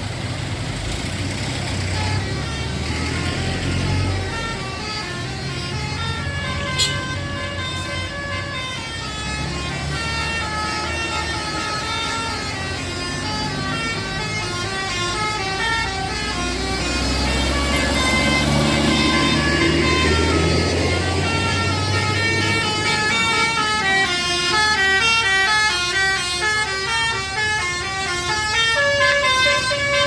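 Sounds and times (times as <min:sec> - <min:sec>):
low engine rumble: 0:00.0 - 0:30.0
musical air horn melody: 0:01.8 - 0:30.0.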